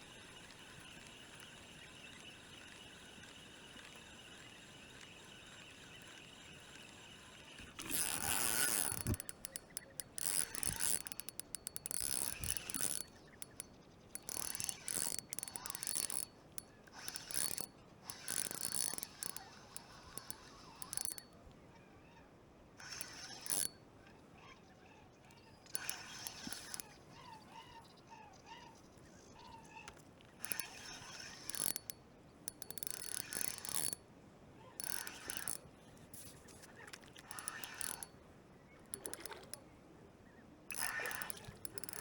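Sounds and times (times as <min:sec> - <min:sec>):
fishing reel ratcheting and whirring: 0:00.0 - 0:21.4, 0:22.8 - 0:23.8, 0:25.4 - 0:27.8, 0:30.4 - 0:34.0, 0:34.7 - 0:38.2, 0:38.9 - 0:39.6, 0:40.7 - 0:42.0.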